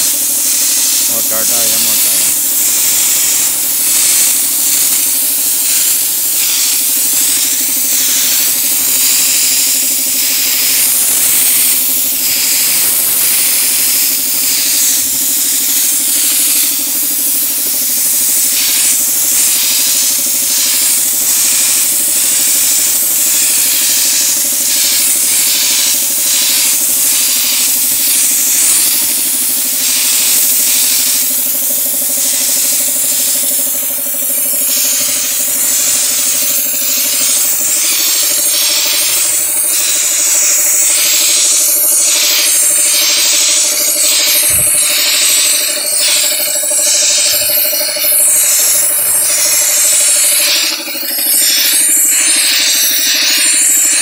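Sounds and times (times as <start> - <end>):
air spray gun hissing bursts: 0.0 - 54.0.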